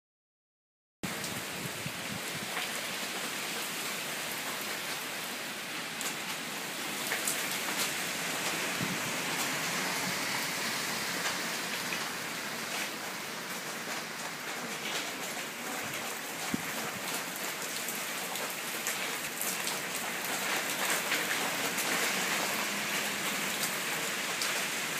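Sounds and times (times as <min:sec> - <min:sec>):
steady rain: 0:01.0 - 0:24.9.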